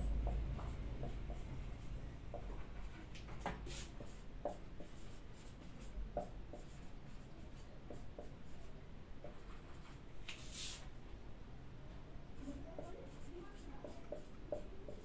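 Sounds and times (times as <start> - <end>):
marker writing on whiteboard: 0.0 - 10.8, 12.4 - 15.0.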